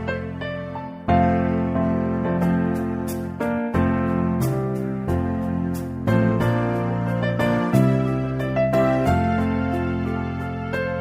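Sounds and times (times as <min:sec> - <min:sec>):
soft slow piano music: 0:00.0 - 0:11.0.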